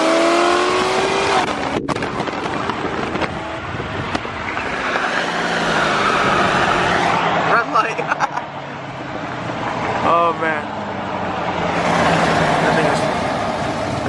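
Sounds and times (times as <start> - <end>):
car engines accelerating hard: 0.0 - 14.0
engine and road noise: 0.0 - 14.0.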